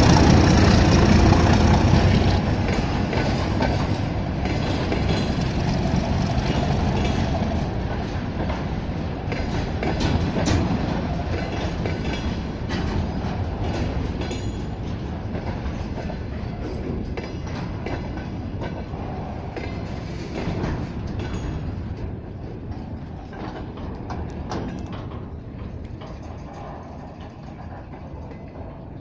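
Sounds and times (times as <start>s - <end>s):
freight train rumble: 0.0s - 29.0s
train wheels clattering over rail joints: 0.0s - 29.0s.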